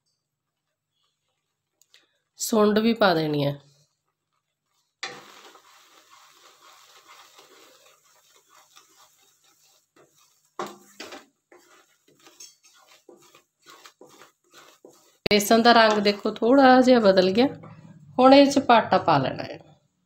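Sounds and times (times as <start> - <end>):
soft frying hiss: 0.0 - 17.6
wooden spatula scraping a pan: 0.6 - 2.2, 3.7 - 20.0.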